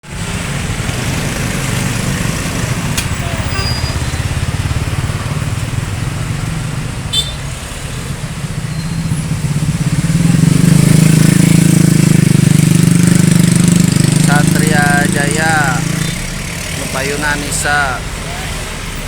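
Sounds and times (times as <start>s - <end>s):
diesel bus engine rumbling: 0.0s - 19.0s.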